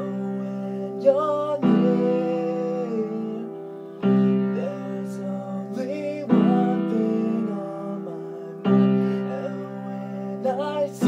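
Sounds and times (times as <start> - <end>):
man singing: 0.0 - 11.0
piano chord ringing: 0.0 - 11.0.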